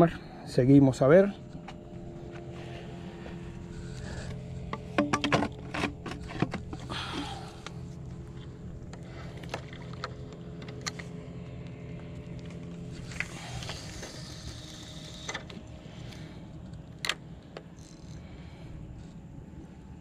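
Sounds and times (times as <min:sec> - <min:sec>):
low engine-like hum: 0:00.0 - 0:20.0.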